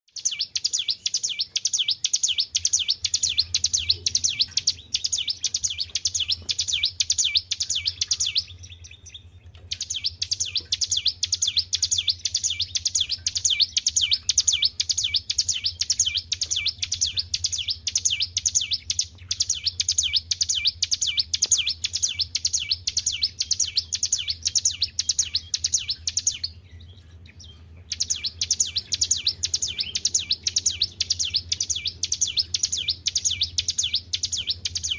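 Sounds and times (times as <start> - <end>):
songbird singing high notes: 0.1 - 34.9.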